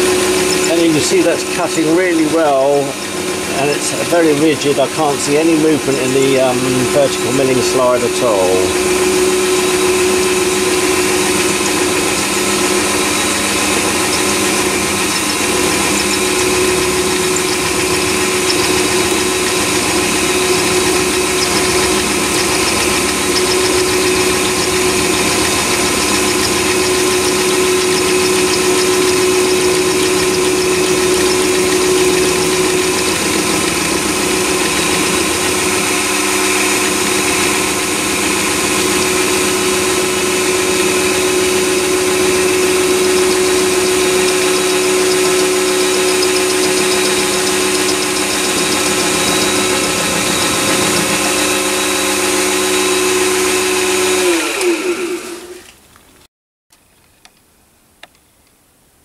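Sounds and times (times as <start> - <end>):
end mill cutting metal: 0.0 - 55.6
lathe motor whine: 0.0 - 55.7.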